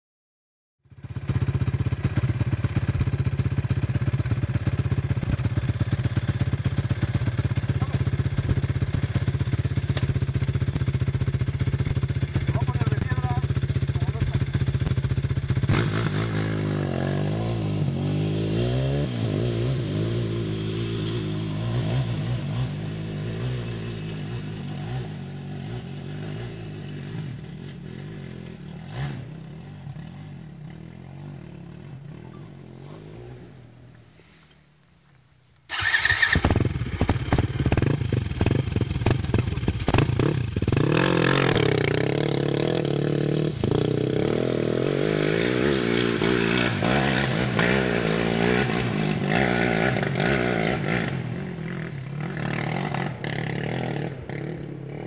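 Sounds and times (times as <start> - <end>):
dirt bike engine revving: 5.2 - 34.4, 35.7 - 55.0.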